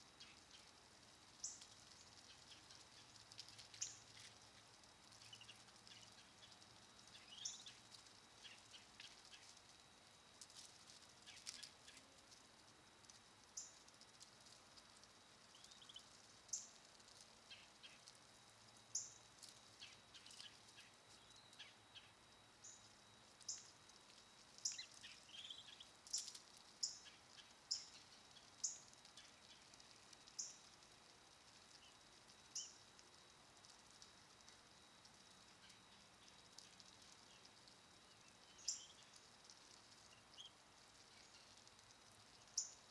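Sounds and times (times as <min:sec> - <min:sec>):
faint high-pitched hum: 0:00.0 - 0:42.9.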